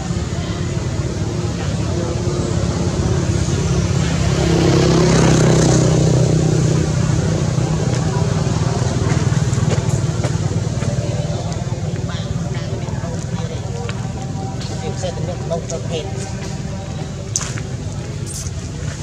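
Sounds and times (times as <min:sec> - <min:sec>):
vehicle engine passing by: 0:00.0 - 0:19.0.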